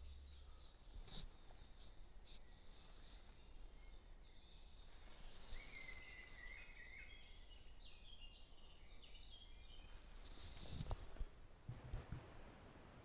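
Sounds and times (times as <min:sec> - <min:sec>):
faint birdsong: 0:00.0 - 0:11.6
low background hiss: 0:00.0 - 0:13.0.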